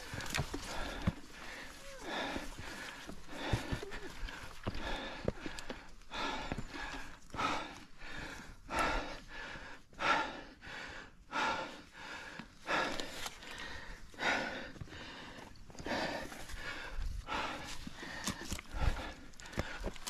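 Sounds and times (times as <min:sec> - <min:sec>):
heavy rhythmic breathing: 0:00.0 - 0:20.0.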